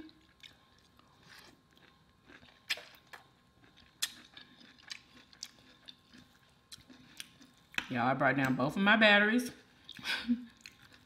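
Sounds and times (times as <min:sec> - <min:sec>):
chewing green beans: 0:00.0 - 0:08.6, 0:09.6 - 0:11.0.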